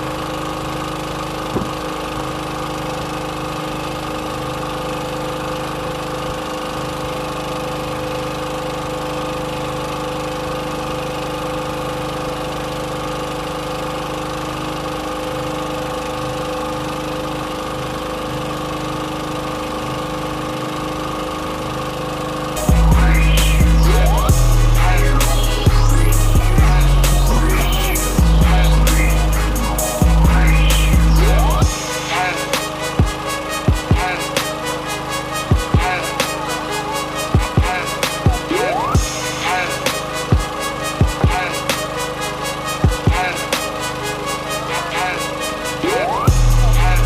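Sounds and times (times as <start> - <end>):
boat engine idling: 0.0 - 47.0.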